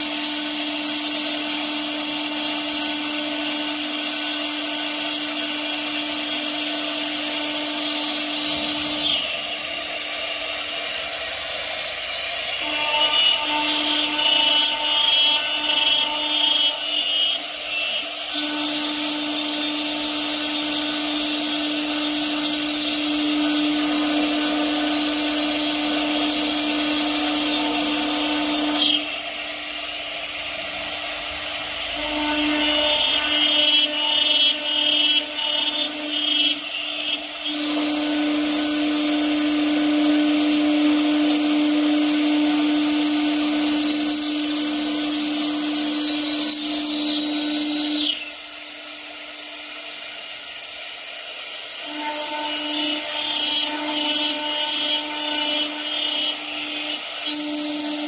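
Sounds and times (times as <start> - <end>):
cutting machine motor whine: 0.0 - 58.0.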